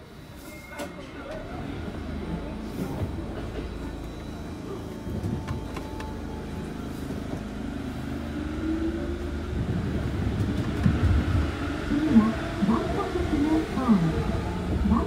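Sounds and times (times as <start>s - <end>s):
monorail train rumbling: 0.0s - 15.0s.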